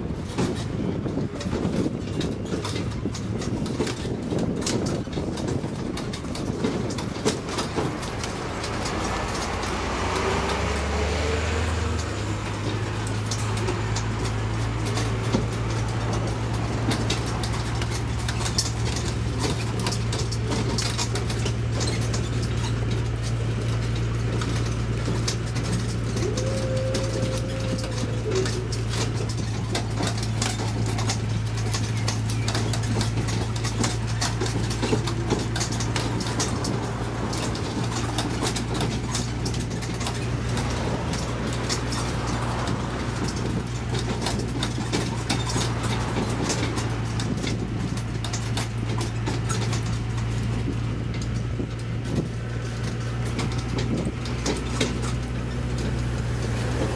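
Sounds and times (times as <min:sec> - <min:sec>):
carriage rattles and clicks: 0:00.0 - 0:56.9
low engine hum: 0:00.0 - 0:56.9.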